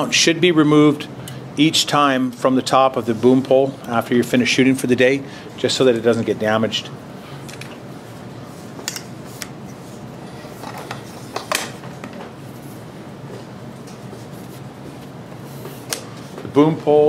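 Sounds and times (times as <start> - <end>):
room noise: 0.0 - 17.0.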